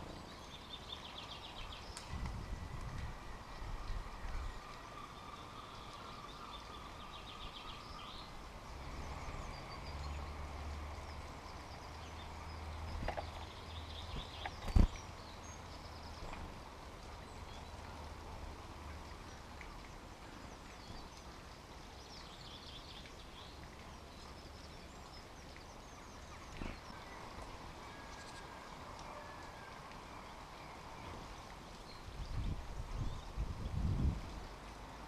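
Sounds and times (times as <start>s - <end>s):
low outdoor noise: 0.0s - 35.0s
songbirds chirping and trilling: 0.0s - 35.0s.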